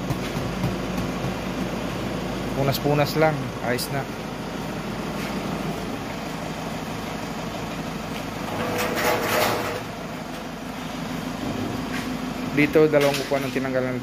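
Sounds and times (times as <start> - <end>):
van engine idling: 0.0 - 8.6, 9.9 - 13.1
air conditioning hum: 0.0 - 14.0.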